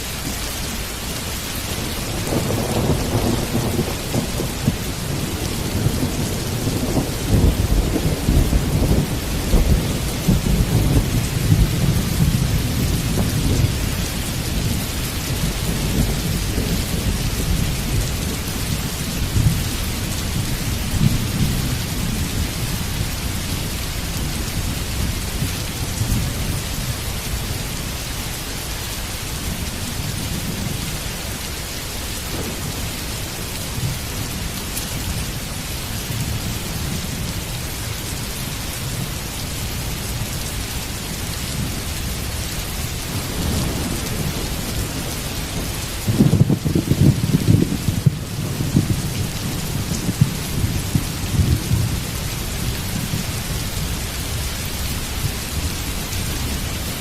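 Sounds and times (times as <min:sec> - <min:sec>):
heavy rain: 0:00.0 - 0:57.0
thunder rumbling: 0:01.2 - 0:28.2, 0:29.3 - 0:39.2, 0:39.8 - 0:57.0.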